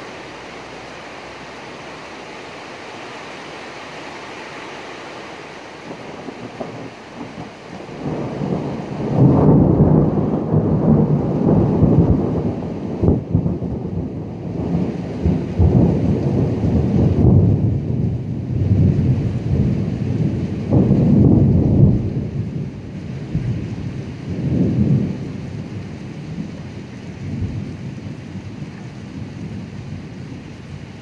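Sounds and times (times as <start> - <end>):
steady rainfall: 0.0 - 31.0
rolling thunder: 5.8 - 31.0.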